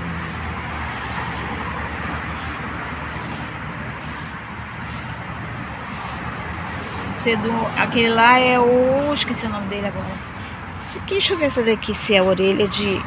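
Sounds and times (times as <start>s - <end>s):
low engine hum: 0.0s - 13.0s
road traffic hiss: 0.0s - 13.0s.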